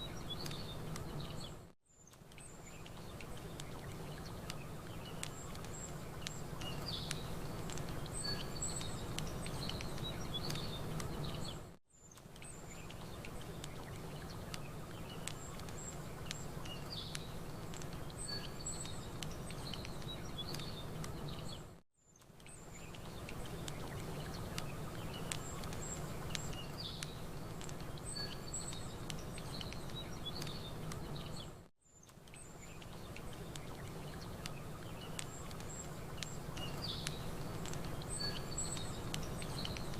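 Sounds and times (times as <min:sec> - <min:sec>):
campfire crackling: 0:00.0 - 0:39.9
small birds chirping: 0:00.0 - 0:39.9.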